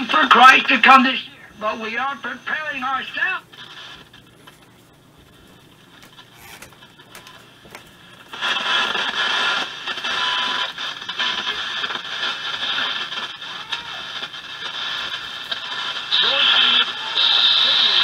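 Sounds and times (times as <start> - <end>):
loud rush of static: 0.0 - 18.0
radio hiss: 0.0 - 18.0
radio tuning clicks: 0.0 - 18.0.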